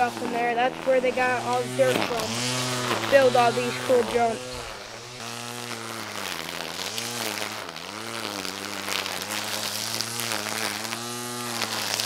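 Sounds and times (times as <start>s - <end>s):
string trimmer motor whine: 0.0s - 12.0s
trimmer line cutting weeds: 0.0s - 12.0s.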